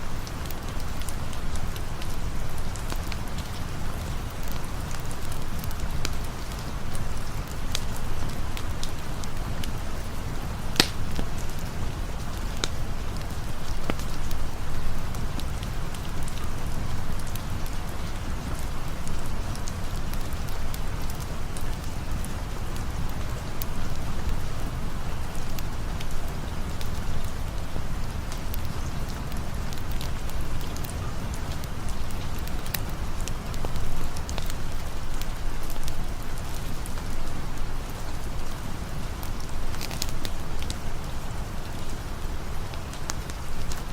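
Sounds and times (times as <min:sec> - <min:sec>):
campfire crackling: 0:00.0 - 0:43.9
steady rain falling: 0:00.0 - 0:43.9.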